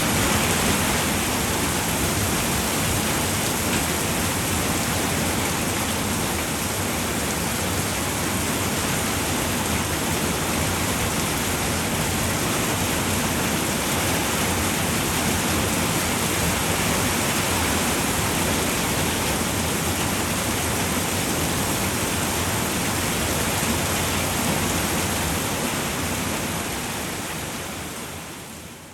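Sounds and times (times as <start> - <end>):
heavy rain on a roof: 0.0 - 28.9.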